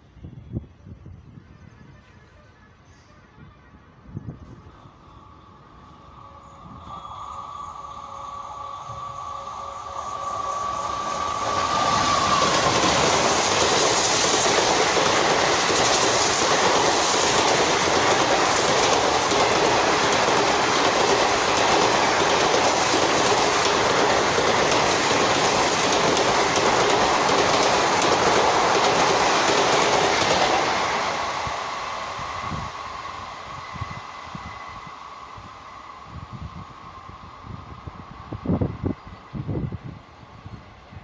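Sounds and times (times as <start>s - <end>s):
train wheels on rails: 4.3s - 41.0s.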